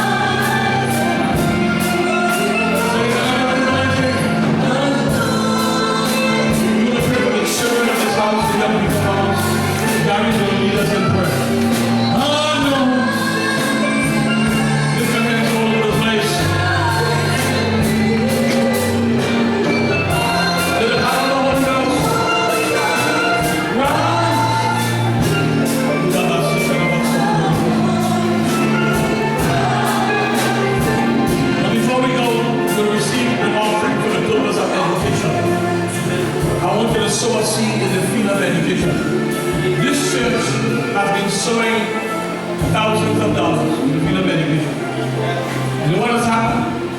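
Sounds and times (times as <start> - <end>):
steady drum beat: 0.0 - 41.1
gospel singing: 0.0 - 46.9
low bass notes: 0.0 - 46.9.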